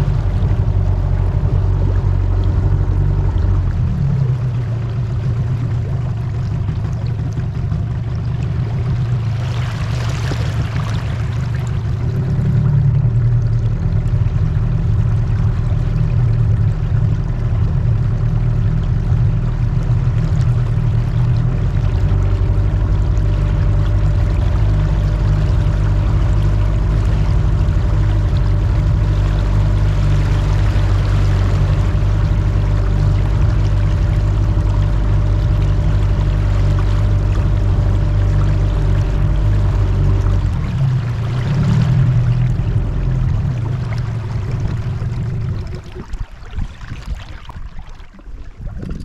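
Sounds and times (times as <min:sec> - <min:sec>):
boat motor running: 0:00.0 - 0:49.0
water rushing past hull: 0:00.0 - 0:49.0.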